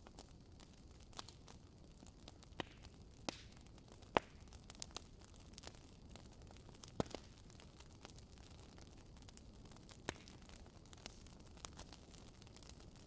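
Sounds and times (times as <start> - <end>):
logs crackling and popping: 0.0 - 13.0.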